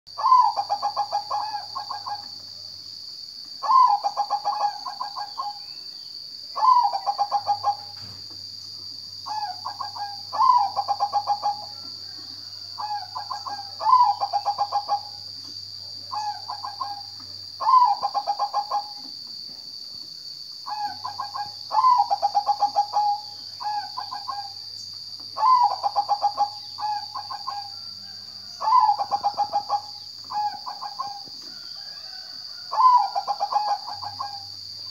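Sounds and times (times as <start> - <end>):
dove cooing: 0.1 - 2.4, 3.6 - 5.6, 6.6 - 8.1, 9.3 - 15.2, 16.0 - 19.1, 20.7 - 24.7, 25.3 - 34.9.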